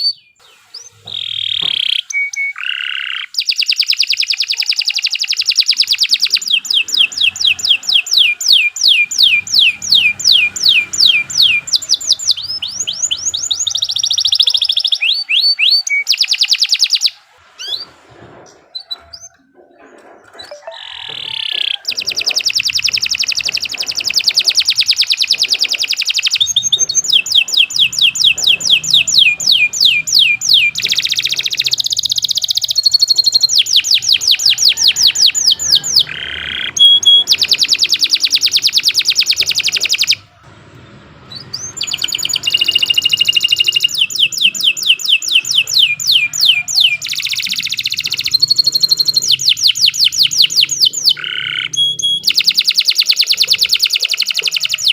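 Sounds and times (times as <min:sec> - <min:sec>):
canary singing trills: 0:00.0 - 0:40.5, 0:41.2 - 0:54.9.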